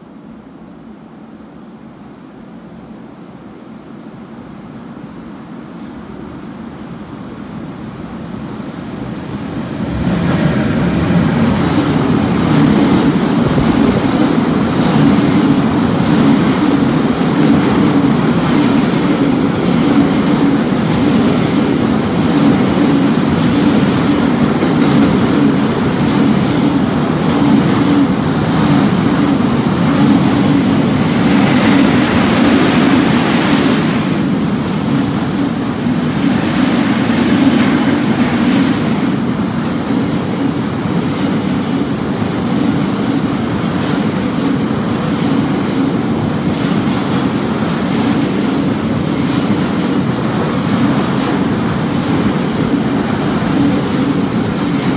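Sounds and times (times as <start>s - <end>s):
rail hiss: 0.8s - 54.9s
train wheels rumbling and clattering: 5.2s - 54.9s.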